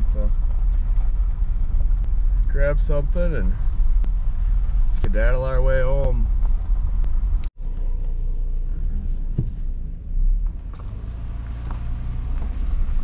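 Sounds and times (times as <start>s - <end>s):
pickup engine and tyres rumbling: 0.0s - 13.0s.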